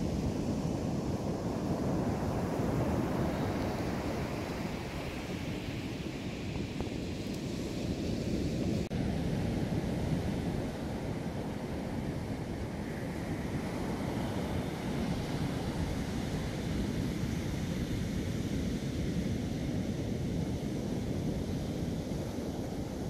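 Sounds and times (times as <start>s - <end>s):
waves breaking on a beach: 0.0s - 23.0s.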